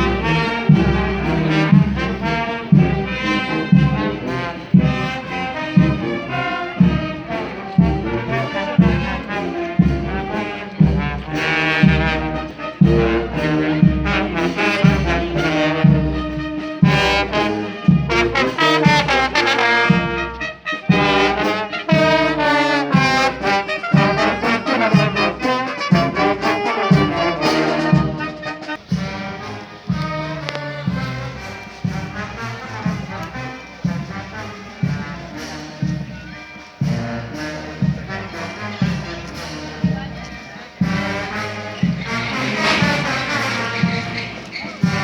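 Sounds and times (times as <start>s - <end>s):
brass band playing: 0.0s - 45.0s.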